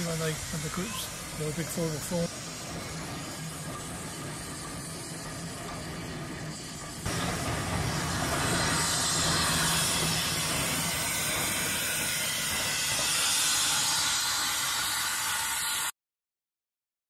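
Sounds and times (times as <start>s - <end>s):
locomotive steam hissing: 0.0s - 15.9s.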